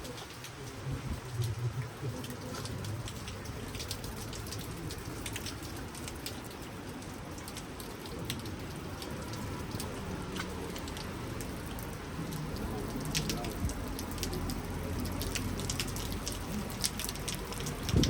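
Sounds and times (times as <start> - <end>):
rain drops pattering: 0.0 - 18.0.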